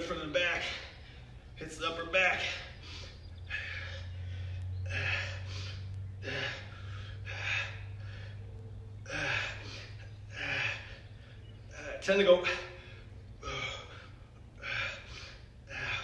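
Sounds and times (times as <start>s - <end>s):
steady low hum: 0.0s - 16.0s
man breathing hard: 2.4s - 11.8s, 12.4s - 16.0s.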